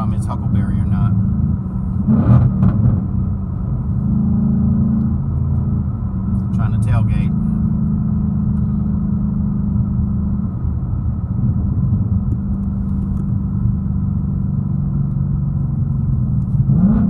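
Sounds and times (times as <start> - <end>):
car engine droning at cruise: 0.0 - 17.0.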